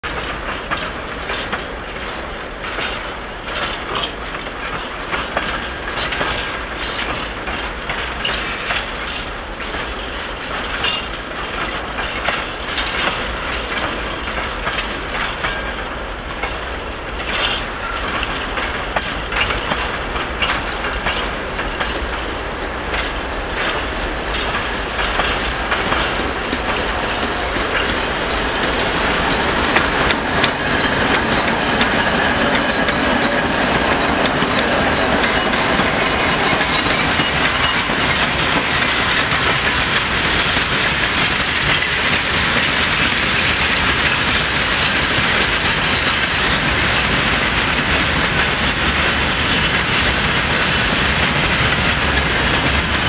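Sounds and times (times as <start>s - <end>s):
diesel locomotive engines under load: 0.0s - 53.0s
train wheels clicking: 0.0s - 53.0s.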